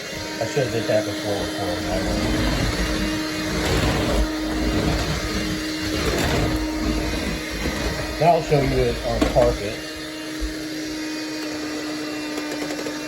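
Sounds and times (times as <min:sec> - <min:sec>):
stick vacuum running: 0:00.0 - 0:13.0.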